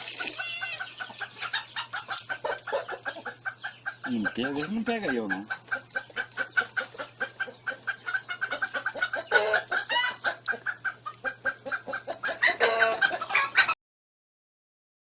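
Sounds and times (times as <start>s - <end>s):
drawn-out animal calls: 0.0s - 13.7s
animal clucking calls: 0.0s - 13.8s.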